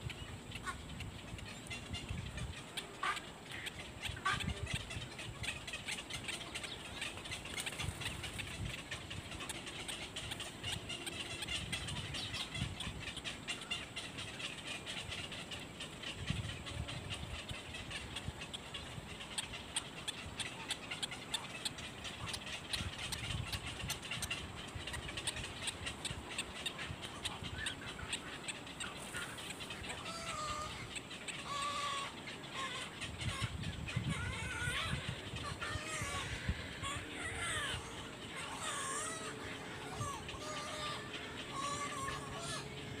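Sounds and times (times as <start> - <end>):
birds chattering: 0.0 - 43.0.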